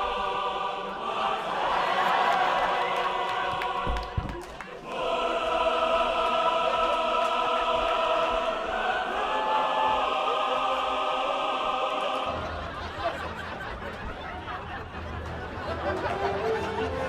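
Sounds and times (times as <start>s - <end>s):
choir holding a chord: 0.0s - 14.1s.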